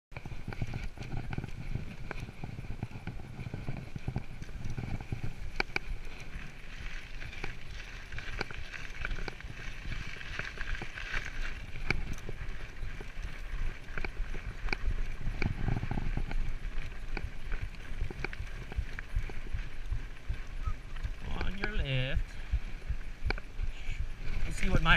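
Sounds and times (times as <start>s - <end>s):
bike rattling over bumps: 0.1s - 24.9s
bike tyres crunching on gravel: 0.1s - 24.9s
low rumble: 0.3s - 24.9s.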